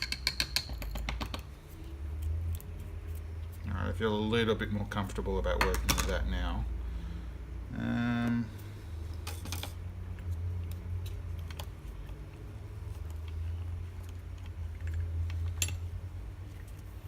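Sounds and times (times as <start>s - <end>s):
steady low hum: 1.4s - 17.0s.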